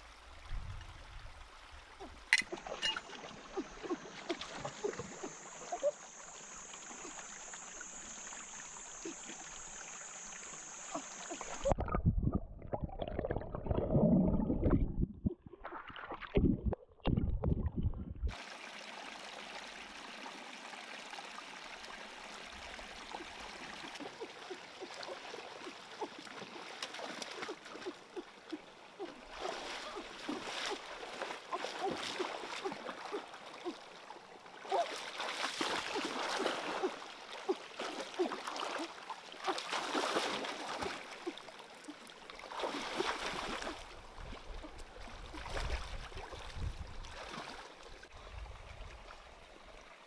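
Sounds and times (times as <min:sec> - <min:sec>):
low rumble of water movement: 0:00.0 - 0:34.8, 0:40.0 - 0:50.0
stream trickling and gurgling: 0:00.0 - 0:50.0.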